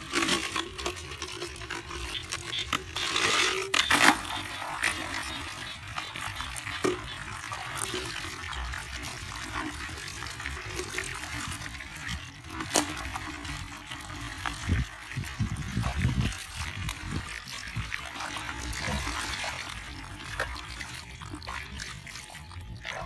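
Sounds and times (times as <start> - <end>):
crabs scratching on plastic: 0.0 - 22.1.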